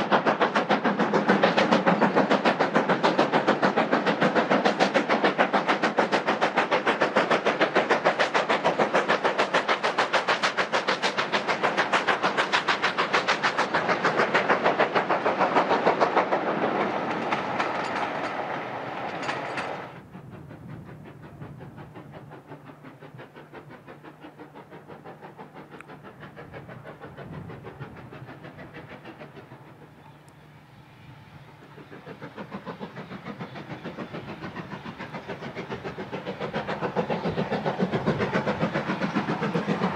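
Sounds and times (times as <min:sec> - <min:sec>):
steam locomotive exhaust beating: 0:00.0 - 0:39.9.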